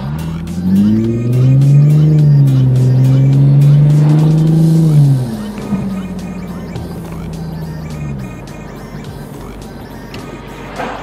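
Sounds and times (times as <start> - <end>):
car engine accelerating: 0.0 - 11.0
music: 0.0 - 11.0.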